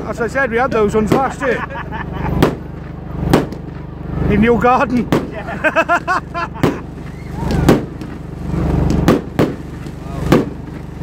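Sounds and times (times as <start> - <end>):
fireworks bangs: 0.0 - 11.0
steady low hum: 0.0 - 11.0.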